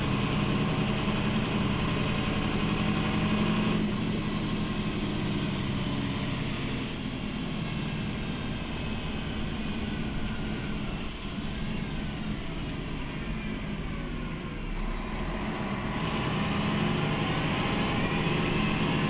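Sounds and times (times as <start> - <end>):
diesel bus engine running: 0.0 - 19.0
road noise rumble: 0.0 - 19.0.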